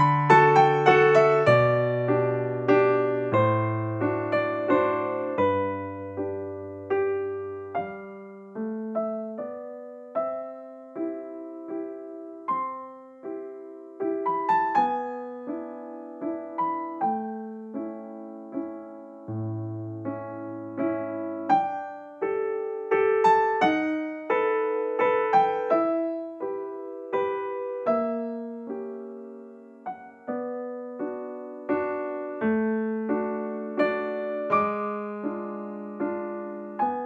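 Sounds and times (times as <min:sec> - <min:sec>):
slow piano melody: 0:00.0 - 0:37.0.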